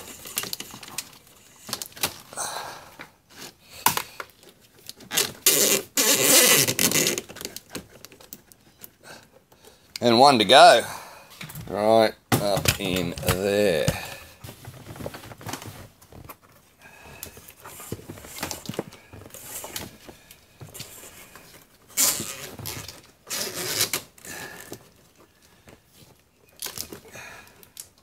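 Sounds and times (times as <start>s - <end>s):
cable rustling and scraping: 0.0s - 2.3s, 4.2s - 9.9s, 12.4s - 28.0s.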